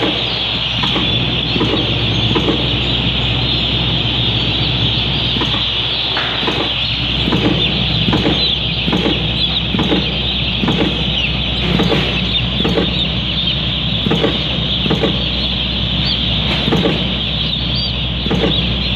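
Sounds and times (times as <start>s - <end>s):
chicks peeping: 0.0s - 18.9s
steady low hum: 0.0s - 18.9s.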